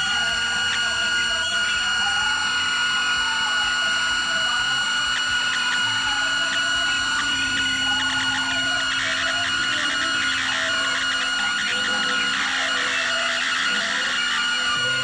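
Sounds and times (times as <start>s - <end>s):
high-pitched electronic tones: 0.0s - 15.0s.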